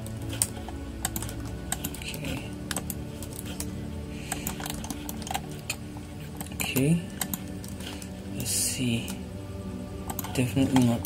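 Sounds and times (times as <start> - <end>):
keyboard keys clicking: 0.0 - 5.8, 6.4 - 9.2, 10.0 - 11.0.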